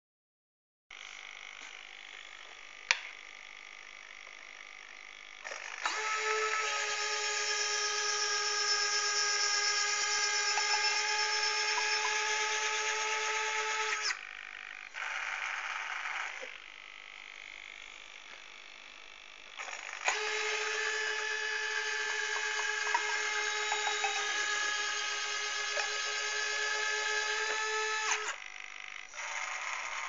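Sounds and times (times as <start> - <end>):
small electric motors whining: 0.9 - 30.0.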